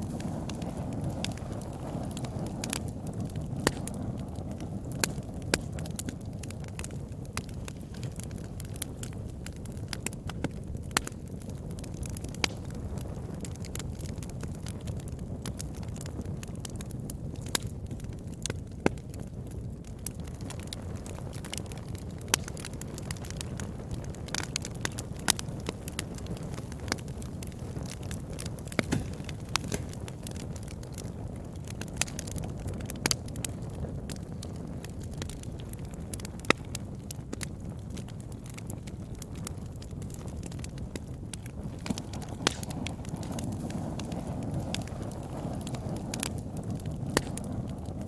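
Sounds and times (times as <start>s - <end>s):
burning wood crackling and popping: 0.0s - 48.0s
low rumble of flames: 0.0s - 48.0s.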